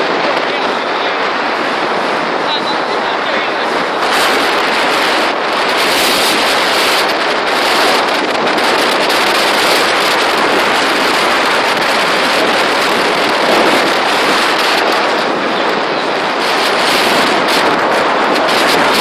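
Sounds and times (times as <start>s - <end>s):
water rushing past boat: 0.0s - 19.0s
wind buffeting microphone: 0.0s - 19.0s.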